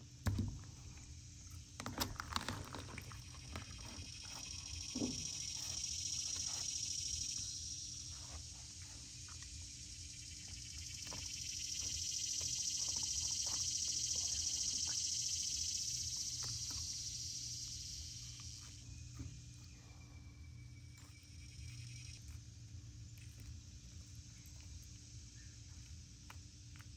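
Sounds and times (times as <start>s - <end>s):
insects buzzing: 0.0s - 26.9s.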